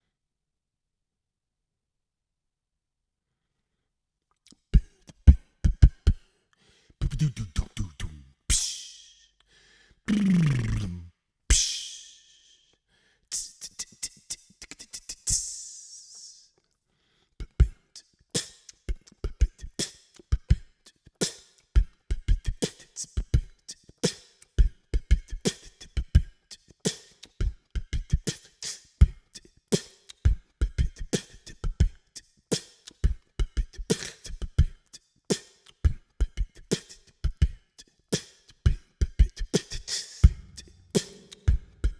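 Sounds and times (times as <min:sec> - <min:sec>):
beatboxed vocal percussion: 0:04.5 - 0:06.3, 0:07.0 - 0:09.4, 0:10.1 - 0:12.6, 0:13.3 - 0:16.5, 0:17.4 - 0:41.9.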